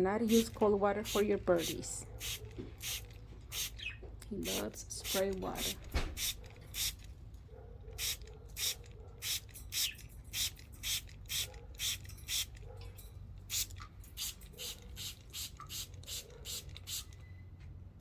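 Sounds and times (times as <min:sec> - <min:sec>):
spray bottle squirting: 0:00.2 - 0:07.1, 0:08.0 - 0:12.6, 0:13.4 - 0:17.2.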